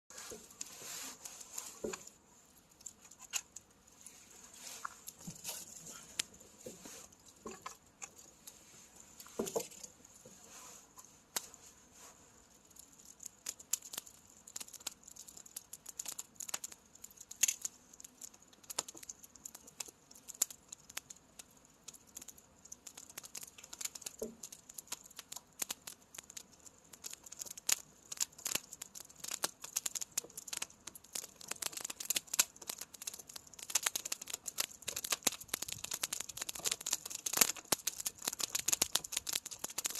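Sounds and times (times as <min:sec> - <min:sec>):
faint steady hiss: 0:00.1 - 0:39.9
firewood crackling and popping: 0:00.1 - 0:39.9.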